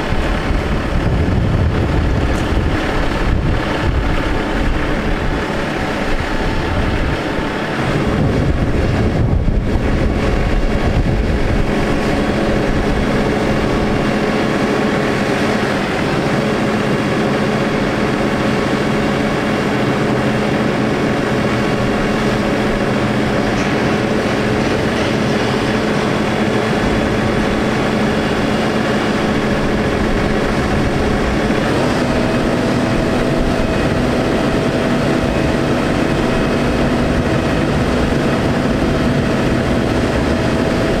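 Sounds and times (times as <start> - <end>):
diesel truck engine running: 0.0 - 41.0
steady hum: 0.0 - 41.0.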